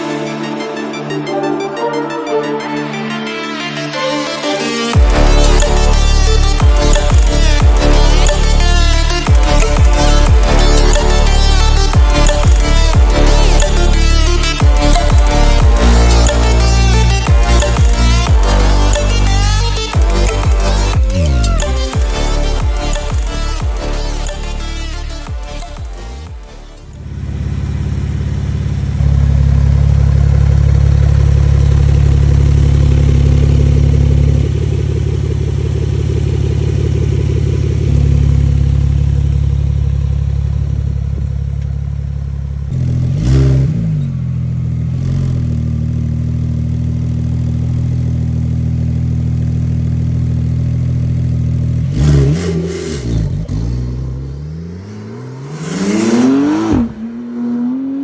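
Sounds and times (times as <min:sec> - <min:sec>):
car engine idling and revving: 0:02.8 - 0:58.0.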